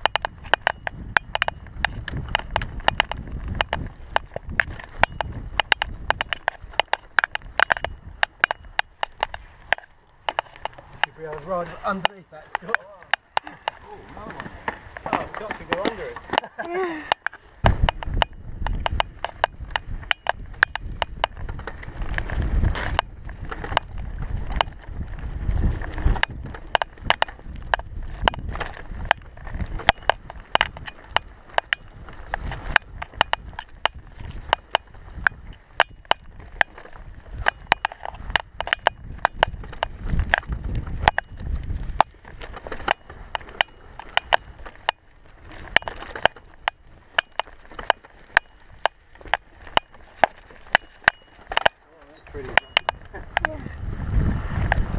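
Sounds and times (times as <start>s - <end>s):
bike rattling clicks and knocks: 0.0s - 53.6s.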